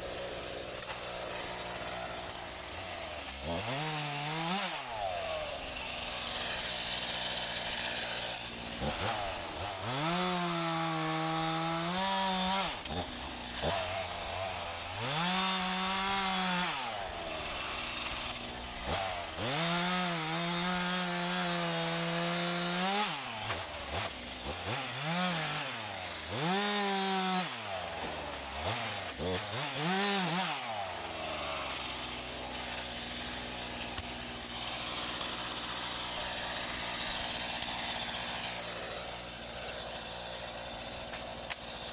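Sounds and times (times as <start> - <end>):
chainsaw revving and idling: 0.0 - 41.9.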